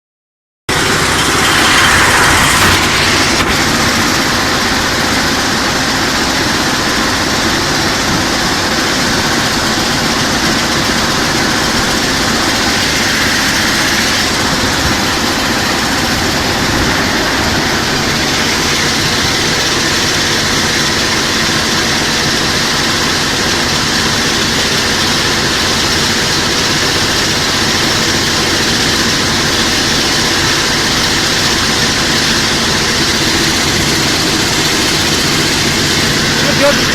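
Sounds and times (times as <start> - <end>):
machine drone and hum: 0.7 - 36.9.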